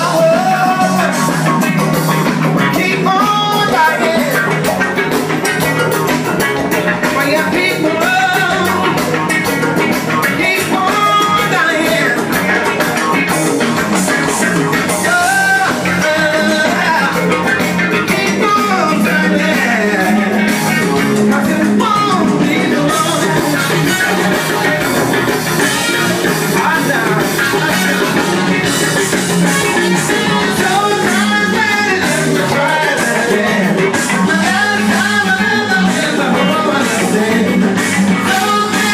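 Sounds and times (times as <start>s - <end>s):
live band music with vocal: 0.0s - 38.9s.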